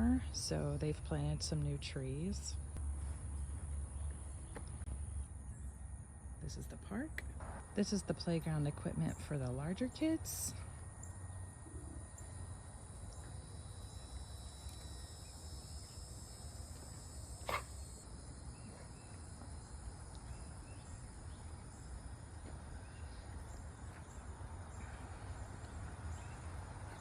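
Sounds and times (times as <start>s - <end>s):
insects calling: 3.8s - 27.0s.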